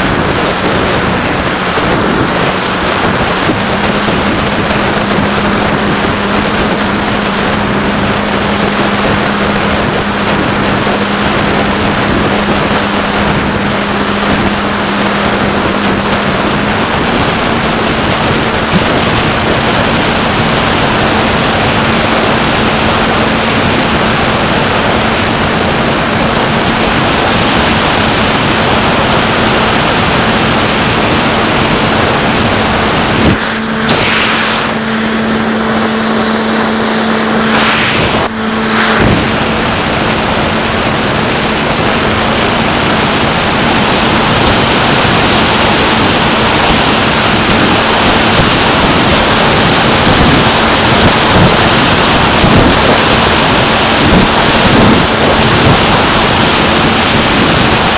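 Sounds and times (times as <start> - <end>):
electric motor and propeller hum: 0.0 - 57.9
wind rushing over microphone: 0.0 - 57.9.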